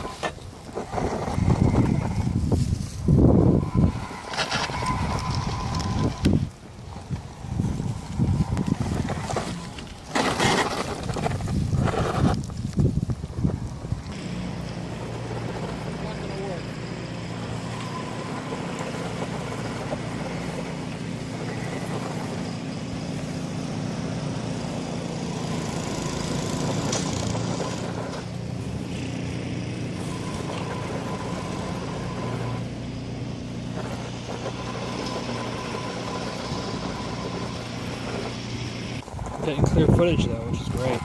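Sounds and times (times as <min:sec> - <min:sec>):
engine humming steadily: 0:00.0 - 0:41.0.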